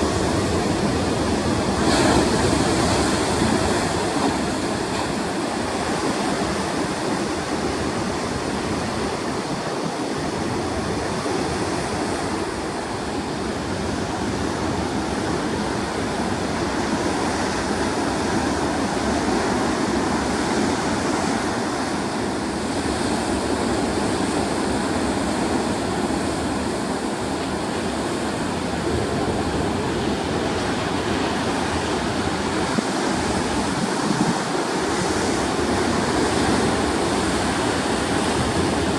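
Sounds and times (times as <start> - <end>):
heavy surf breaking: 0.0 - 38.9.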